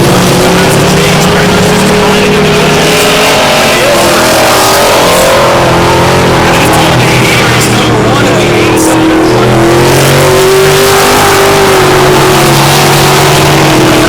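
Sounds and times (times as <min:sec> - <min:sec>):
race engines at full throttle: 0:00.0 - 0:14.0.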